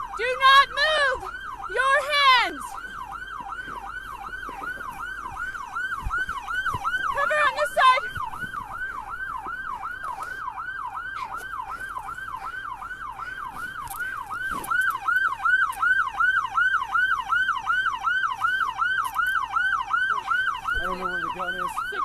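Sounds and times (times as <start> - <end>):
police sirens yelping: 0.0 - 22.0.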